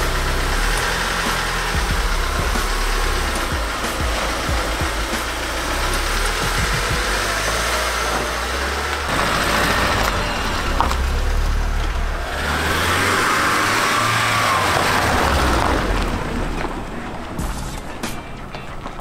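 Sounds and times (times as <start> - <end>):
car engine running: 0.0 - 19.0
tyres crunching on gravel: 0.0 - 19.0.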